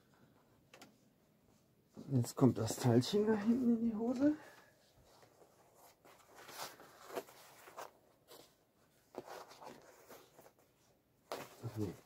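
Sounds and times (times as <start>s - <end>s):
clothing fabric rustling: 0.1s - 12.0s.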